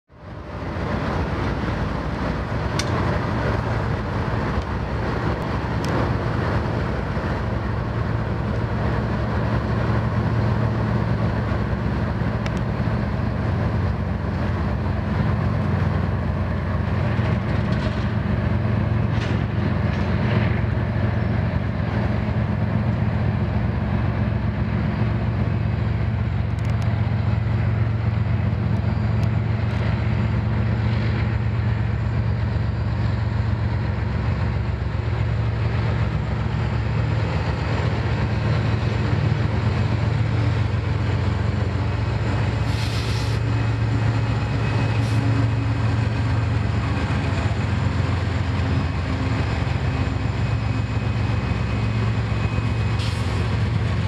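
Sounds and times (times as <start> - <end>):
diesel locomotive engines droning: 0.1 - 54.0
train rumbling on rails: 0.1 - 54.0.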